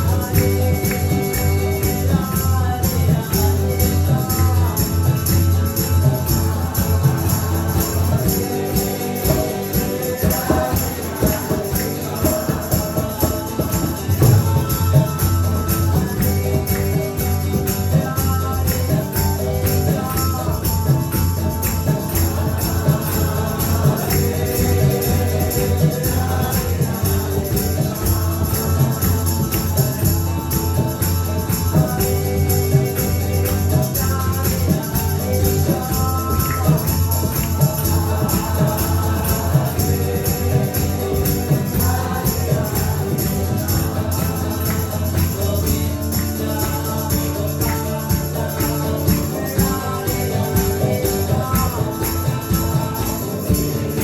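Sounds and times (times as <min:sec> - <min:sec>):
group singing call and response: 0:00.0 - 0:54.0
jingling percussion: 0:00.0 - 0:54.0.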